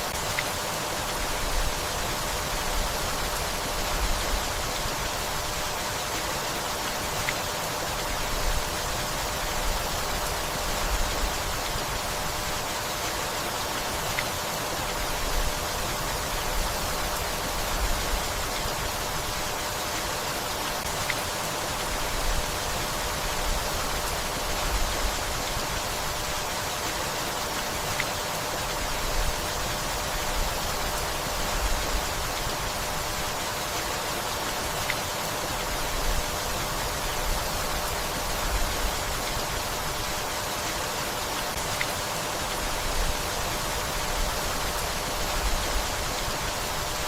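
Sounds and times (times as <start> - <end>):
steady rainfall: 0.0 - 47.0.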